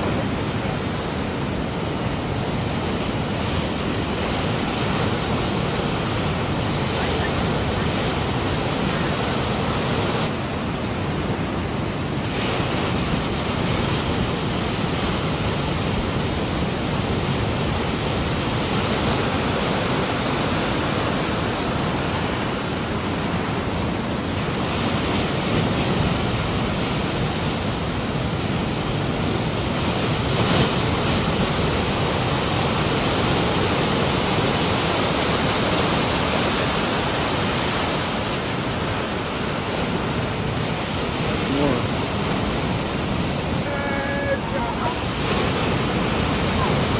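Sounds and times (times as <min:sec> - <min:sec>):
ocean surf rushing: 0:00.0 - 0:46.9.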